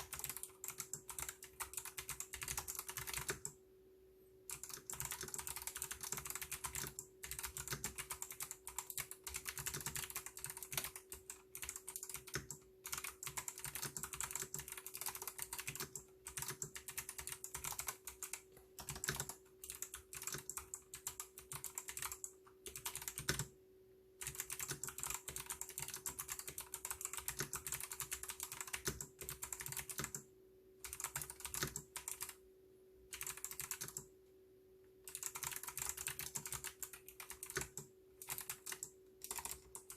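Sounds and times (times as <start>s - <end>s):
mechanical keyboard typing: 0.0s - 3.6s, 4.5s - 23.5s, 24.2s - 32.4s, 33.1s - 34.1s, 35.0s - 39.9s
faint steady hum: 0.0s - 39.9s.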